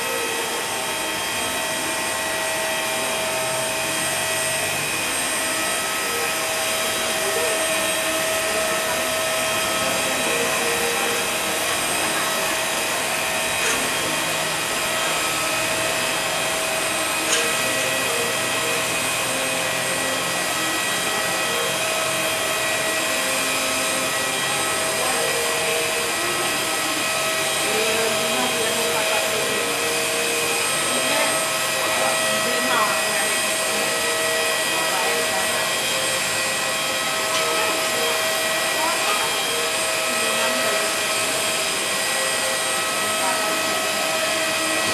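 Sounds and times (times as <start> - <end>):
jet turbine whine: 0.0 - 44.9.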